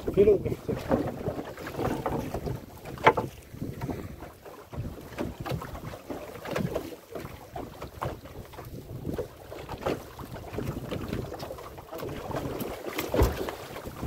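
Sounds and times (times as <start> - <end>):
wind buffeting microphone: 0.0 - 6.7, 8.0 - 11.4, 12.0 - 14.0
knocks on boat: 0.1 - 14.0.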